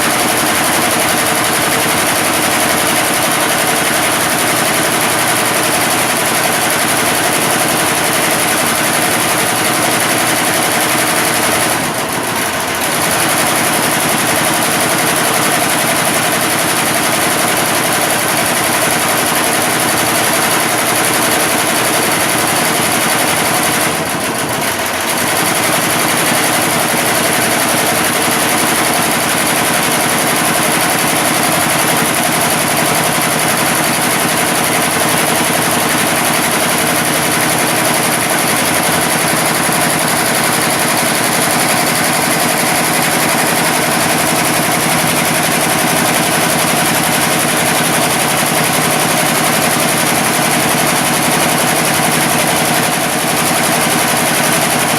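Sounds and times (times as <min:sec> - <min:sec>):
embroidery machine stitching: 0:00.0 - 0:54.9.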